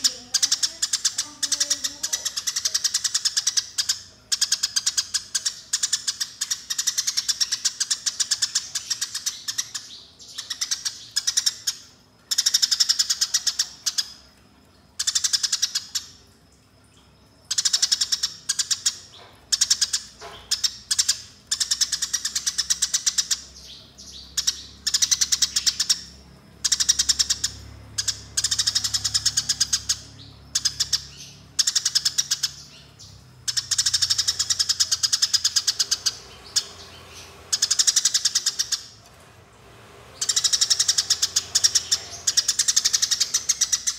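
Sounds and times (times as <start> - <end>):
sparrow chattering: 0.0 - 14.2, 15.0 - 16.1, 17.5 - 39.0, 40.2 - 43.9.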